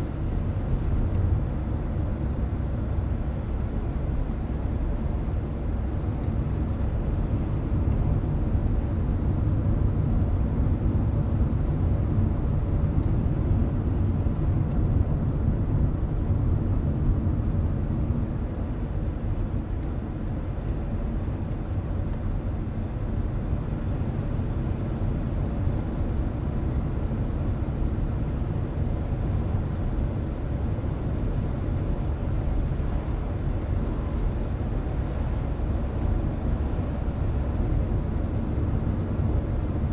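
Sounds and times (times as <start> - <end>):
car road rumble inside cabin: 0.0 - 39.9.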